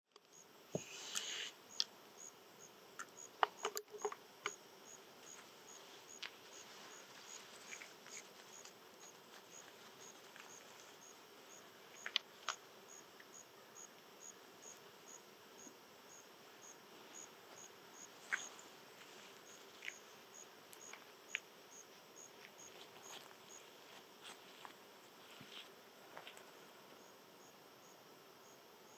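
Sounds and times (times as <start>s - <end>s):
insect chirping faintly: 0.1s - 28.9s.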